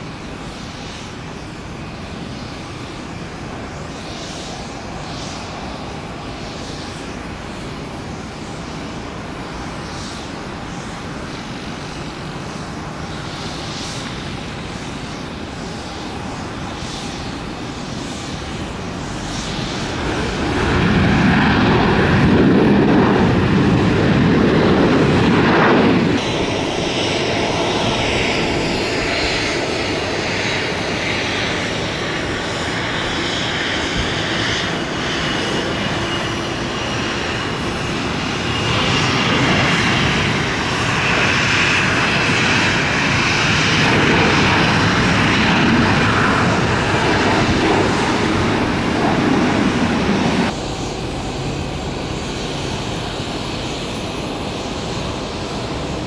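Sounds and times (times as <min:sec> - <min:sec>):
airliner jet engines rumbling: 0:00.0 - 0:56.0
jet engines whining on takeoff: 0:00.0 - 0:56.0.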